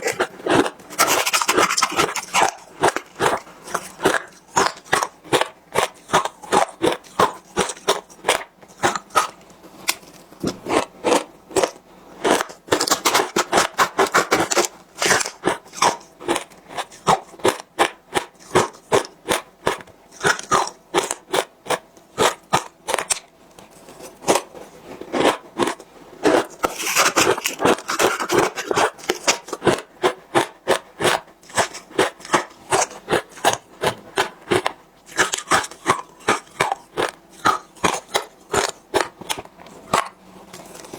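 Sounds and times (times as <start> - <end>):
crunching of frozen ice being chewed: 0.0 - 40.9.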